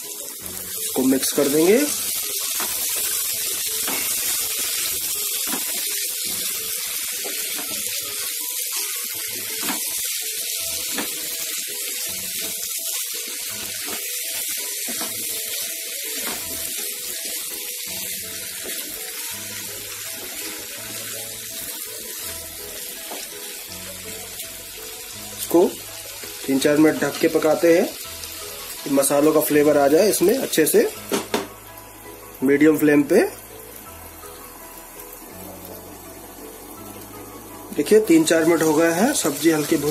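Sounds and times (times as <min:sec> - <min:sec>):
vegetables sizzling in frying pan: 0:00.0 - 0:39.9.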